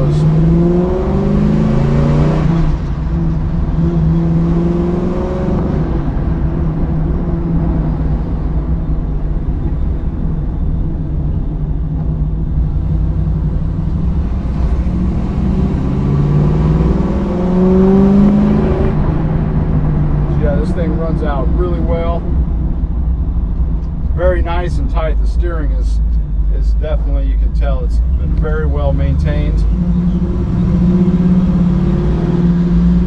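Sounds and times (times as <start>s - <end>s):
car engine from inside cabin: 0.0s - 33.0s.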